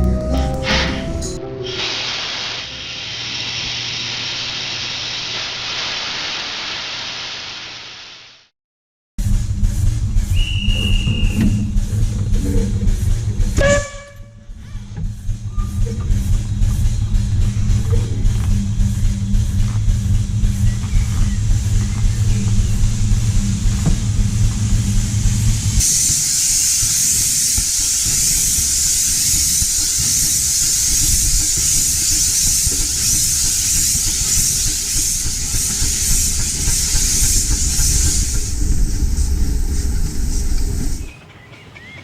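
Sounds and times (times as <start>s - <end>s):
steam locomotive rumble: 0.0s - 7.6s, 9.2s - 42.0s
loud hiss of steam: 0.6s - 8.5s, 9.4s - 12.4s, 15.2s - 41.2s.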